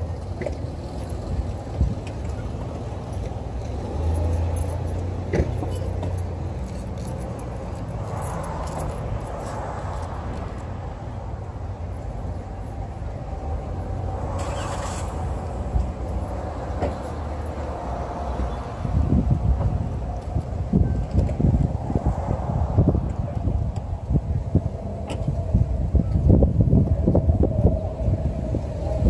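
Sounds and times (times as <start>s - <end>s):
cars passing: 0.0s - 29.0s
traffic rumble: 0.0s - 29.0s.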